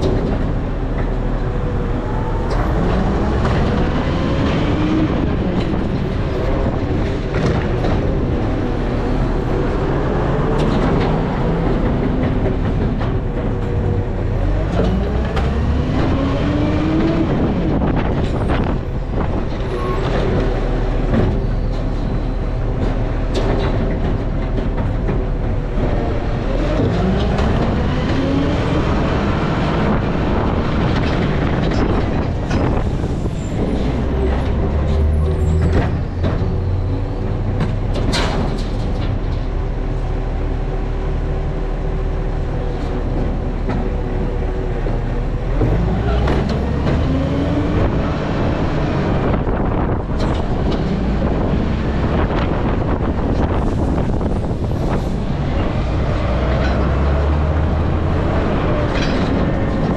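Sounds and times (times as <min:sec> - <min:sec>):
garbage truck engine whining: 0:00.0 - 0:59.9
truck body rattling and clunking: 0:00.0 - 0:59.9.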